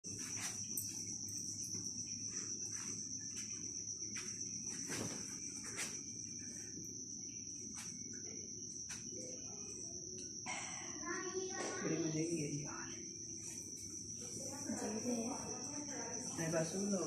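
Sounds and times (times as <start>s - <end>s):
cricket trilling: 0.0s - 17.0s
low room hum: 0.1s - 17.0s.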